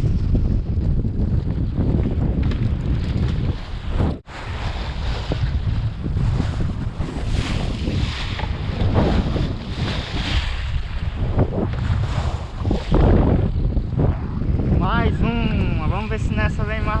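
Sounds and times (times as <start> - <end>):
sea washing around hull: 0.0 - 17.0
wind buffeting microphone: 0.0 - 17.0.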